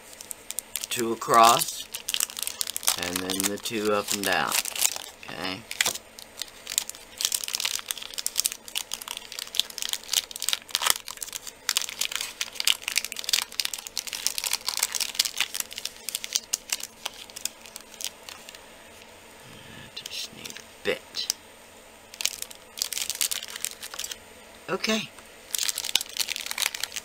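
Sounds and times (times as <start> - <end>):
plastic wrapper crinkling: 0.0 - 19.1, 22.1 - 24.2, 25.4 - 27.0.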